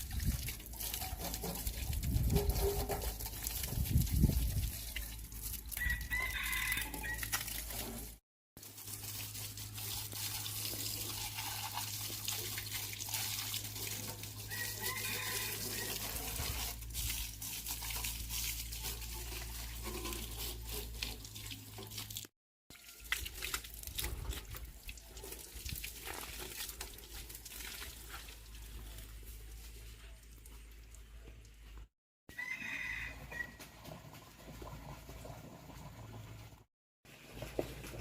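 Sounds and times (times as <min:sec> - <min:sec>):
running splashing water: 0:00.0 - 0:30.9.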